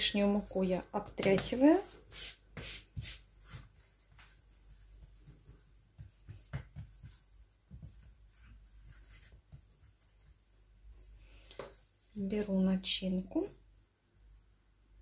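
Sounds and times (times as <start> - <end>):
hands patting dough: 0.0 - 12.6
hands rubbing dough: 0.0 - 12.7.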